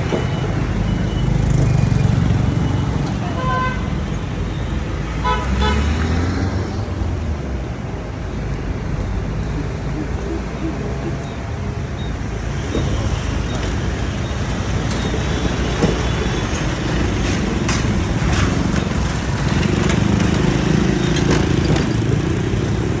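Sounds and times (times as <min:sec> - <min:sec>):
heavy vehicles rumbling: 0:00.0 - 0:23.0.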